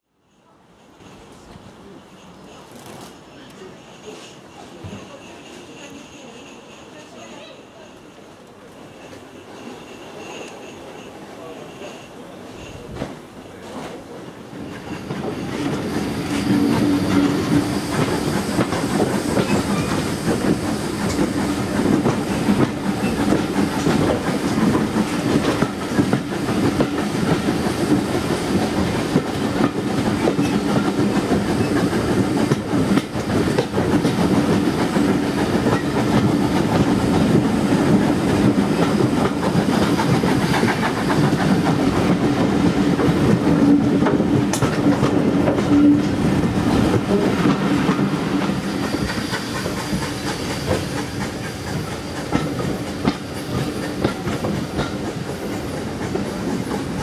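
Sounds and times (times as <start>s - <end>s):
train coaches rumbling: 0.2s - 57.0s.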